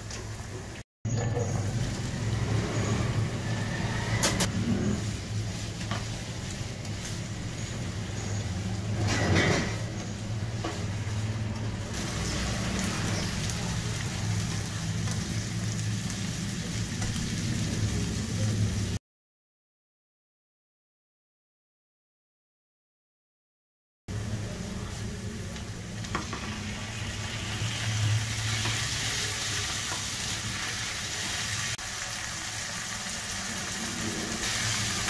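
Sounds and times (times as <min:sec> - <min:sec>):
onions sizzling in hot oil: 0:01.4 - 0:19.0, 0:24.1 - 0:35.0.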